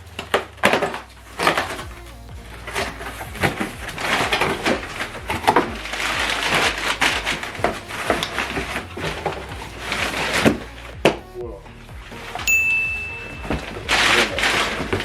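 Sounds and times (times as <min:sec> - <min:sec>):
cardboard packaging rustling: 0:00.0 - 0:10.8, 0:13.0 - 0:15.0.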